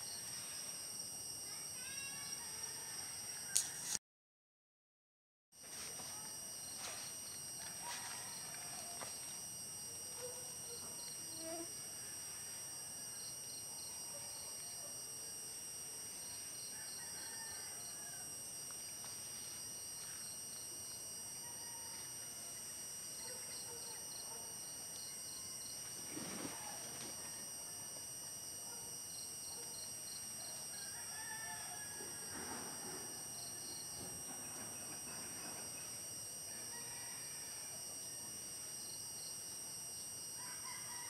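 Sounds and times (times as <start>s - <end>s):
insects trilling: 0.0s - 4.0s, 5.6s - 41.0s.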